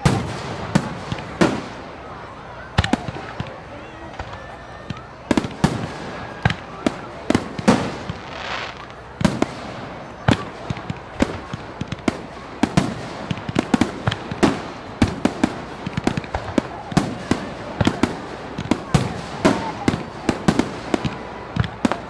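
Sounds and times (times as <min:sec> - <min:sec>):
continuous rumbling: 0:00.0 - 0:22.0
fireworks bangs: 0:00.0 - 0:22.0
fireworks crackling hiss: 0:00.0 - 0:22.0.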